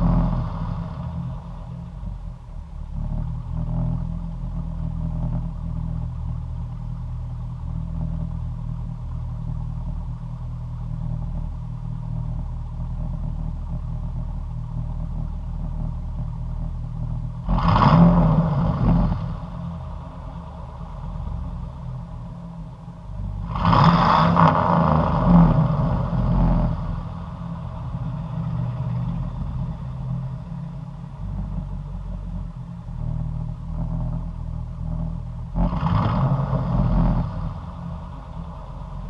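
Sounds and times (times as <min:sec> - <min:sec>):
truck engine idling and revving: 0:00.0 - 0:39.0.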